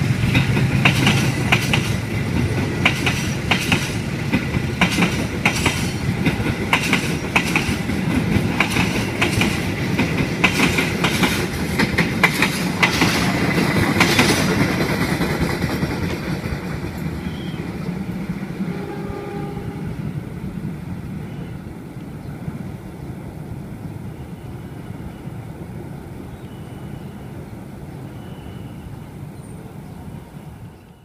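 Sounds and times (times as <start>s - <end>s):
passenger train passing: 0.0s - 31.0s.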